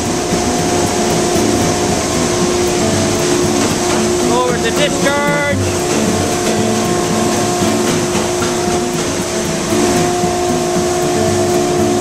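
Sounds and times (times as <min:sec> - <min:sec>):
grain cleaning machine fan rushing: 0:00.0 - 0:12.0.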